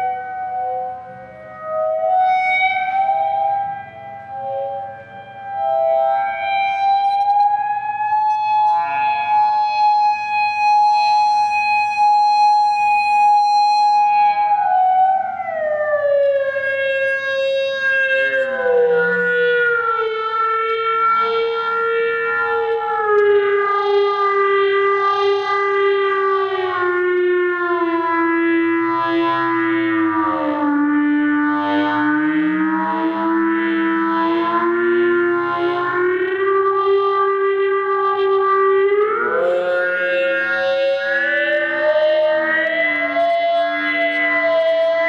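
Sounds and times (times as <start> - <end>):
theremin wavering melody: 0.0 - 45.0.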